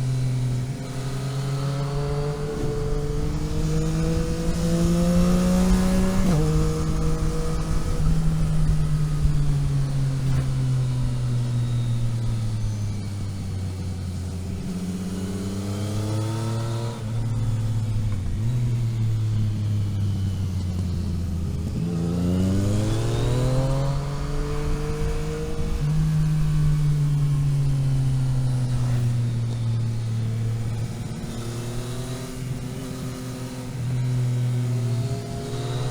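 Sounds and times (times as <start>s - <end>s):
vehicle engine revving: 0.0s - 35.9s.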